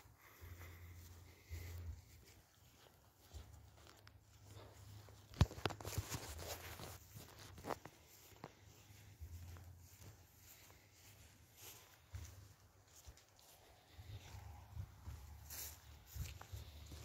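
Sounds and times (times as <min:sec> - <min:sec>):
footsteps: 0:00.0 - 0:17.0
rustling: 0:00.3 - 0:17.0
clicks and scuffs: 0:01.1 - 0:17.0.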